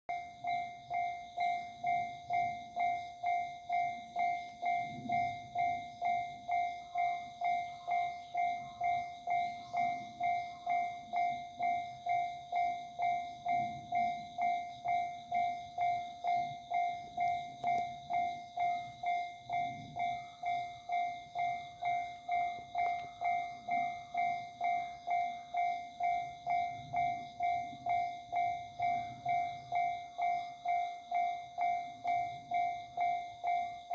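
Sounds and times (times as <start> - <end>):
level crossing warning bell ringing: 0.1 - 33.9.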